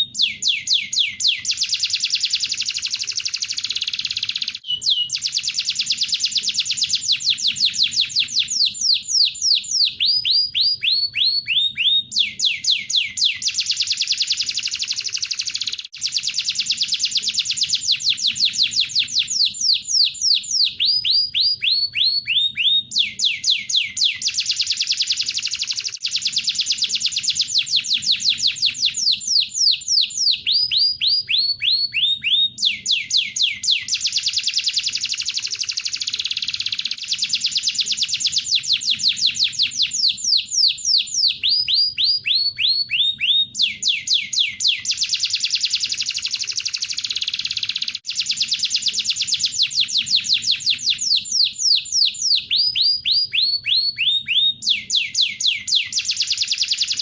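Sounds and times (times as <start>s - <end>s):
canary song trilling: 0.0s - 57.0s.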